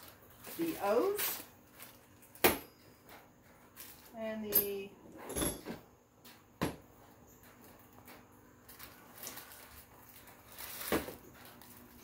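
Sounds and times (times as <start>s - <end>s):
rustling and handling of parts: 0.0s - 12.0s.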